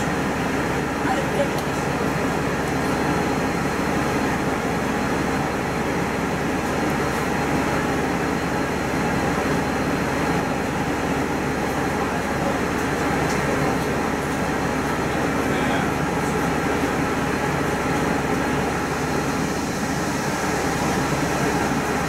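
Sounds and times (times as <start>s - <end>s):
bus engine and road noise: 0.0s - 22.0s.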